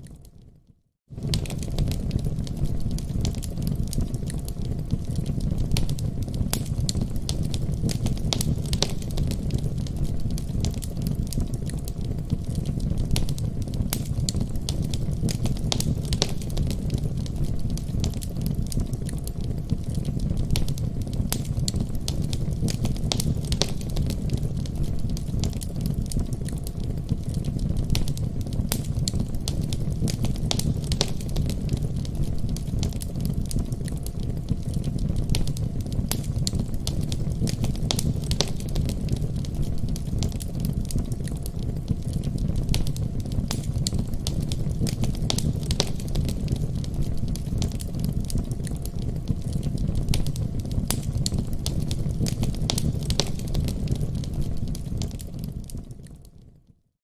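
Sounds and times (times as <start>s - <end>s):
fire crackling and popping: 0.0s - 56.7s.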